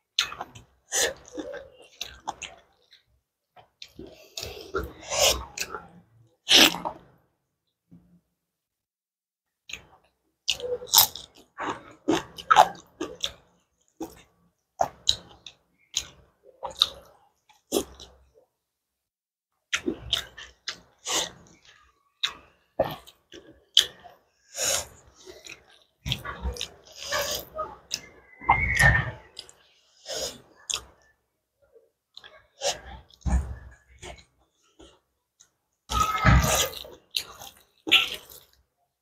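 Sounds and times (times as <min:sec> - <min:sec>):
close-miked chewing: 0:00.2 - 0:07.1, 0:09.7 - 0:18.3, 0:19.7 - 0:31.2, 0:32.1 - 0:38.7
mouth clicks and smacks: 0:00.2 - 0:07.2, 0:09.7 - 0:18.3, 0:19.7 - 0:31.2, 0:32.1 - 0:38.6.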